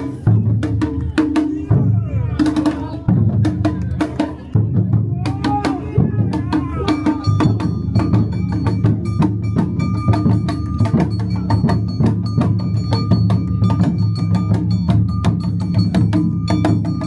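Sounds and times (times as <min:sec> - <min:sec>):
struck percussion beat: 0:00.0 - 0:17.0.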